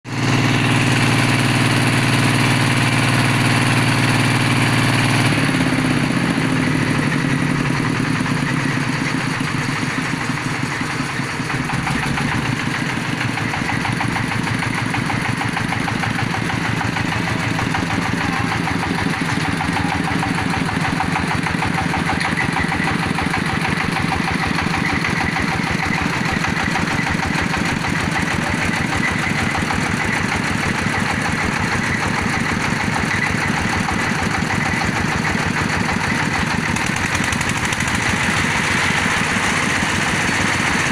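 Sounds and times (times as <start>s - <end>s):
drilling machine engine pulsing: 0.1s - 40.9s.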